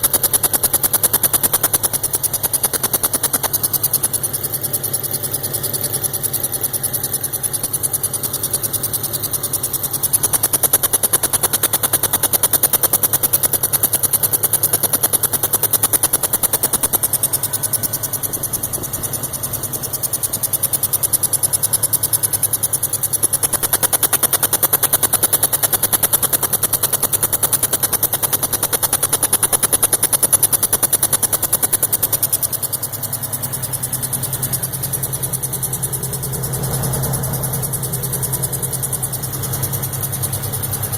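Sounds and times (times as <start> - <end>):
car engine idling: 0.0 - 40.9
rapid repeating chirp: 0.0 - 40.9.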